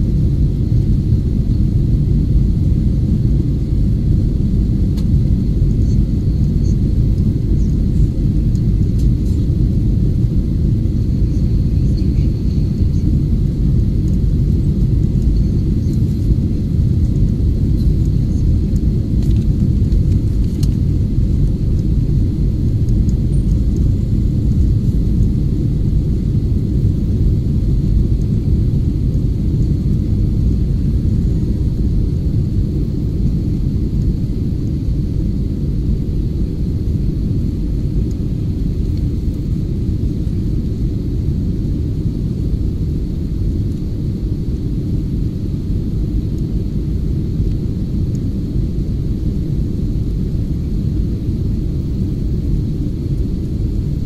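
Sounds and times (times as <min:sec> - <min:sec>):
faint high whine: 0:00.0 - 0:54.0
jet engines rumbling: 0:00.0 - 0:54.0.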